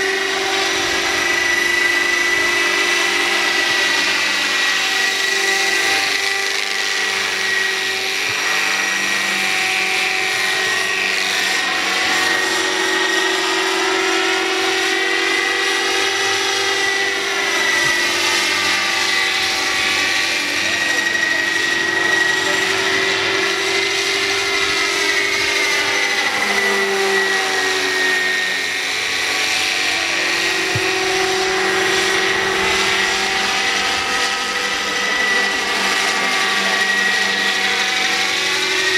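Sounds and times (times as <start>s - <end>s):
electric motor whine: 0.0s - 38.9s
helicopter rotor noise: 0.0s - 38.9s.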